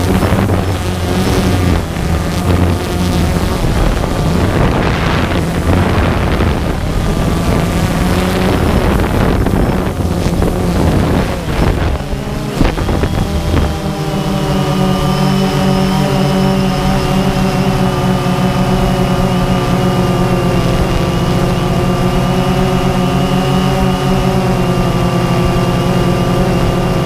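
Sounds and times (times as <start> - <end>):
drone motors droning: 0.0 - 27.0
wind buffeting microphone: 0.0 - 27.0.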